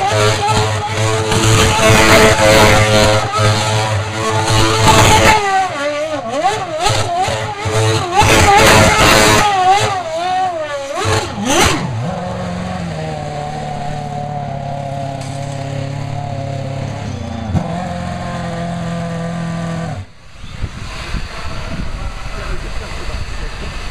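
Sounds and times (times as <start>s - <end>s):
race car engine revving: 0.0s - 23.9s.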